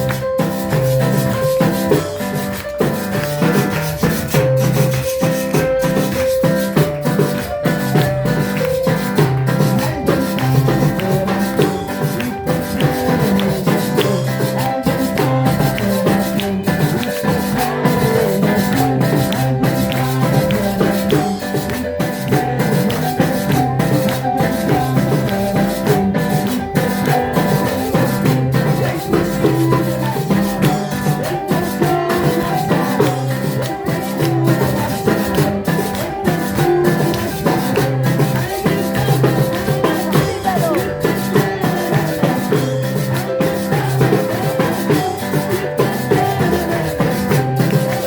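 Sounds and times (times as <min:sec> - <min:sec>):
drums beating: 0:00.0 - 0:48.0
maracas shaking: 0:00.0 - 0:48.0.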